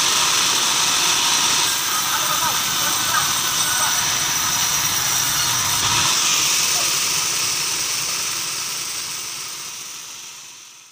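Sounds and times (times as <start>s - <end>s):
bandsaw running: 0.0s - 10.9s.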